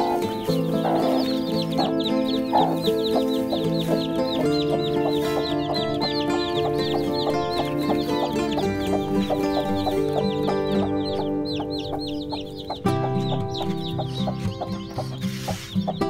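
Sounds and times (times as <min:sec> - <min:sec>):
background music: 0:00.0 - 0:16.0
chicks peeping: 0:00.0 - 0:16.0
hen clucking: 0:00.0 - 0:16.0.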